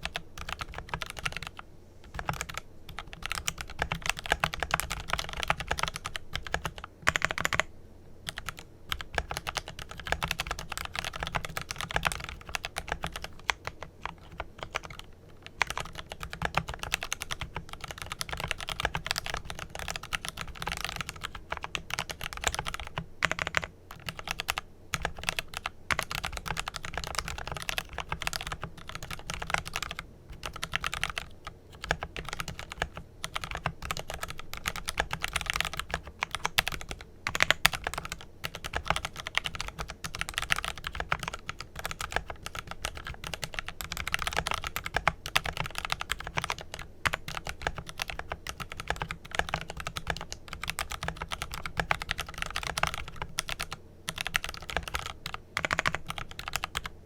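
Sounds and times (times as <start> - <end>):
mechanical keyboard typing: 0.0 - 7.7, 8.3 - 57.0.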